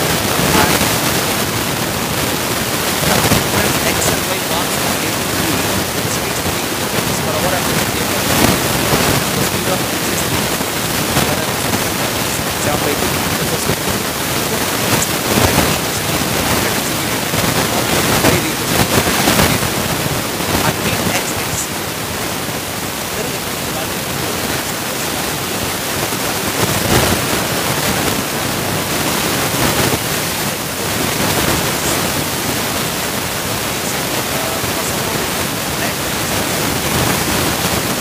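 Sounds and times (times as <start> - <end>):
steady loud hiss: 0.0 - 38.0.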